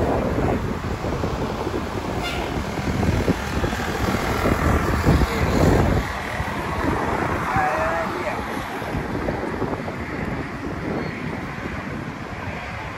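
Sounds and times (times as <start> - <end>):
road traffic passing: 0.0 - 12.9
wind buffeting microphone: 0.0 - 12.9.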